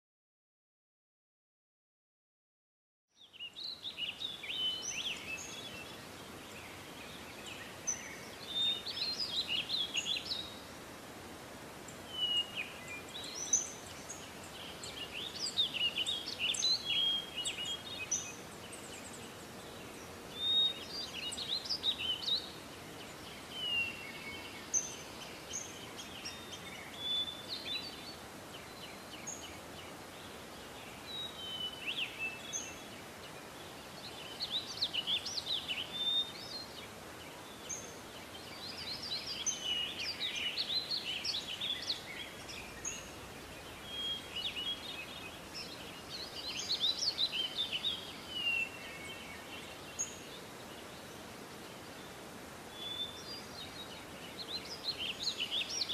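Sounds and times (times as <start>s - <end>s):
outdoor background hiss: 3.1s - 55.9s
small birds chirping: 3.1s - 55.9s.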